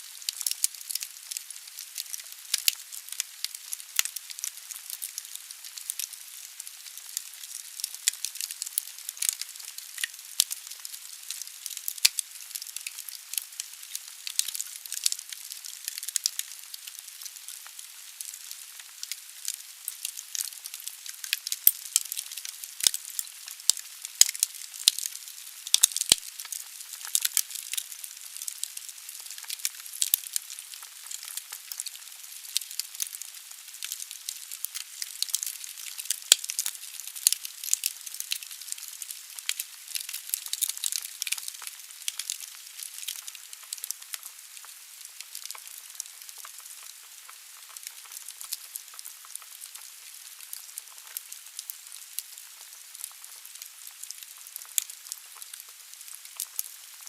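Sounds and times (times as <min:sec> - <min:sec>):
logs crackling and popping: 0:00.1 - 0:57.0.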